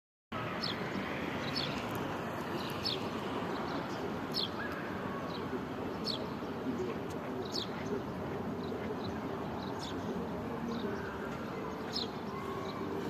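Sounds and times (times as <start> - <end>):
flowing river water: 0.4 - 13.0.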